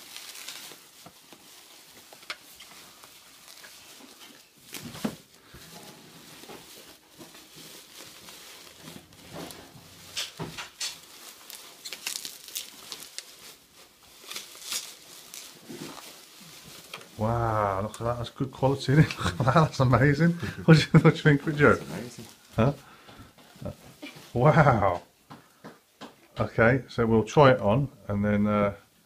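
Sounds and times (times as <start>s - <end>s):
bubble wrap rustling and crinkling: 0.0s - 26.0s.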